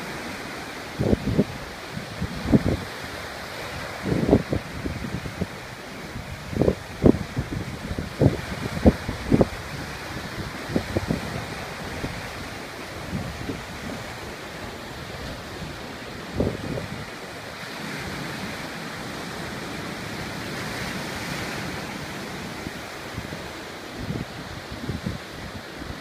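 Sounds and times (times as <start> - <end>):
ocean surf breaking: 0.0 - 26.0
wind buffeting microphone: 1.0 - 26.0.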